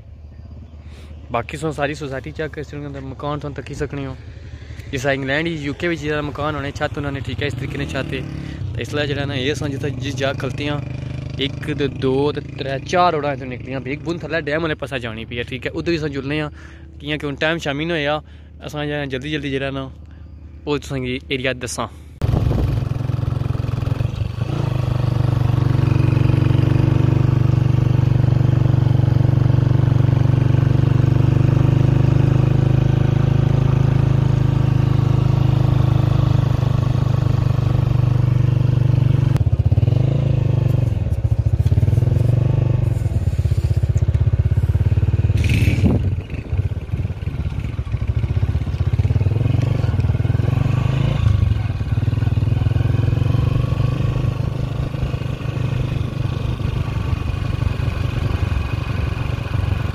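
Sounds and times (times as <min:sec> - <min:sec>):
motorcycle engine running: 0:01.6 - 0:16.9, 0:22.2 - 0:59.9.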